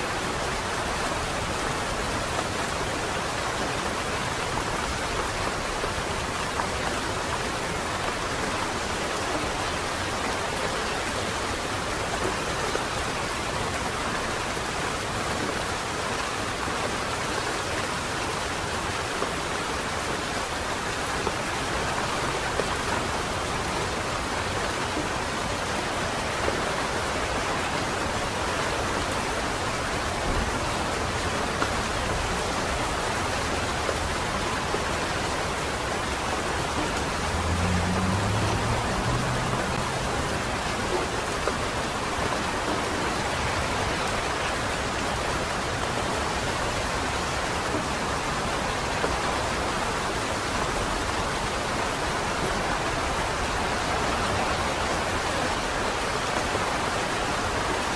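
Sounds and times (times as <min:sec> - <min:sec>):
rain falling on wet street: 0:00.0 - 0:57.9.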